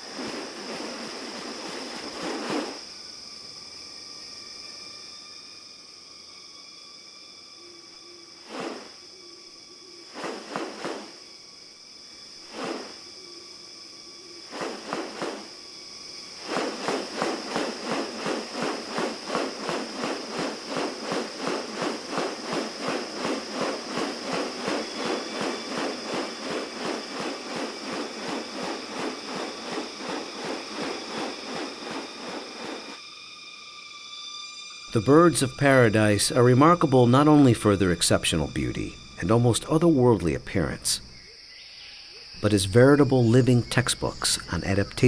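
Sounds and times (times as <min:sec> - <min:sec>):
high insect drone: 0:00.0 - 0:45.0.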